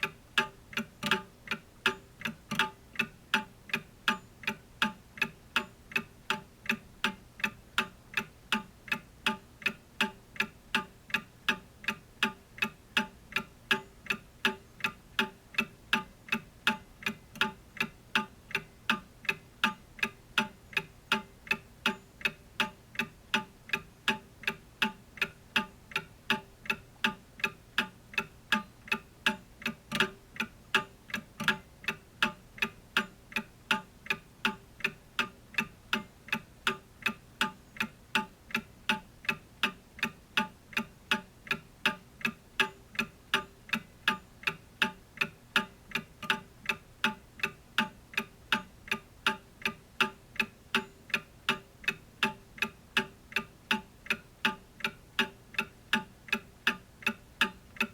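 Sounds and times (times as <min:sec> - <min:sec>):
clock ticking: 0:00.0 - 0:57.9.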